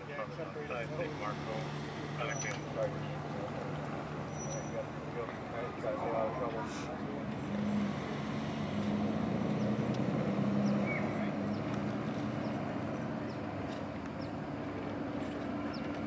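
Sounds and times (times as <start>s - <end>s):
vehicle engine running: 0.3s - 16.0s.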